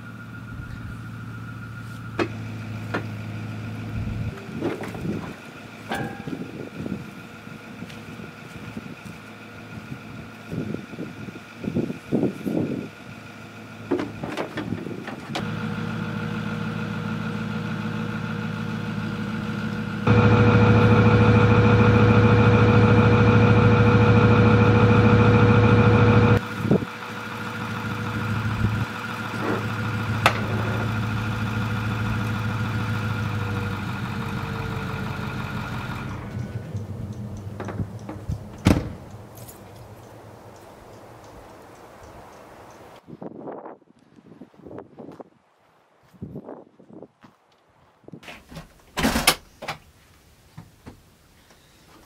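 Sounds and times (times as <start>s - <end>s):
truck engine idling: 0.0s - 43.0s.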